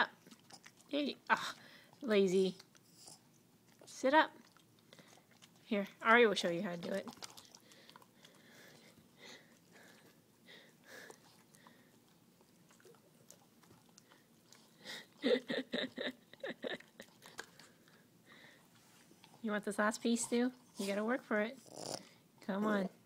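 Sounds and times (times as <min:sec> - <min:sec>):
dog licking and chewing: 0:00.0 - 0:22.0.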